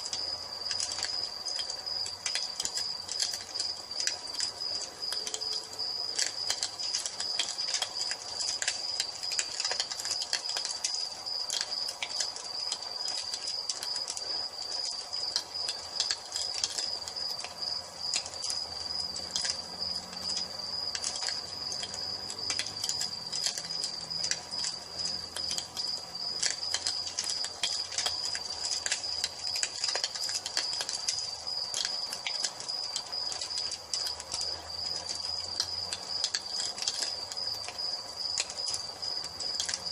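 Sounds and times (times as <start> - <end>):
cricket trill: 0.0 - 39.9
wood fire crackling: 0.0 - 39.9.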